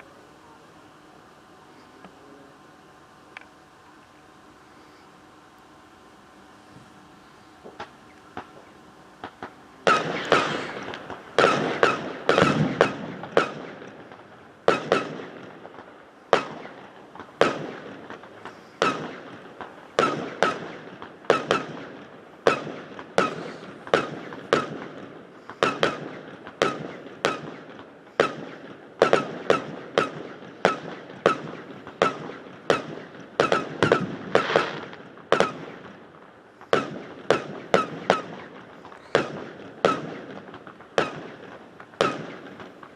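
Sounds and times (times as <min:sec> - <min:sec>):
firework shells bursting: 0:02.8 - 0:42.9
small firework pops: 0:07.6 - 0:42.9.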